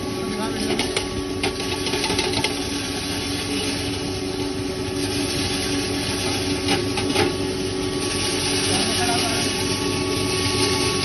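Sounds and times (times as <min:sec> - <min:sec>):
grinding mill humming: 0:00.0 - 0:11.0.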